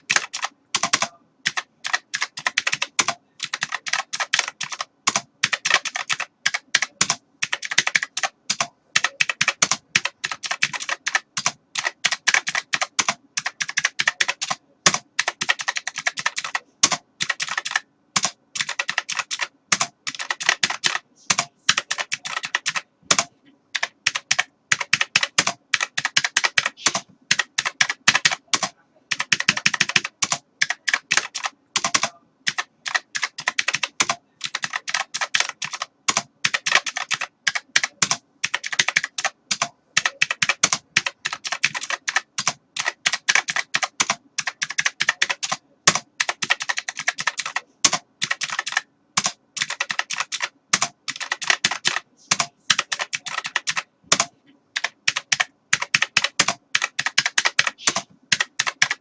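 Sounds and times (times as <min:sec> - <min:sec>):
typing on computer keyboard: 0:00.0 - 0:59.0.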